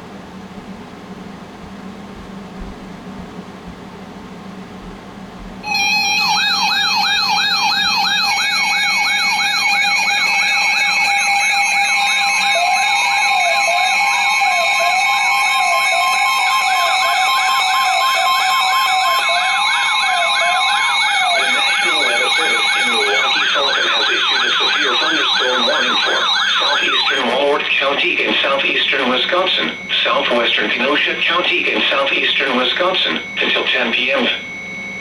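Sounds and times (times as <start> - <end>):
electronic siren yelp: 5.6 - 35.0
siren wail: 5.6 - 35.0
steady high siren tones: 5.6 - 35.0.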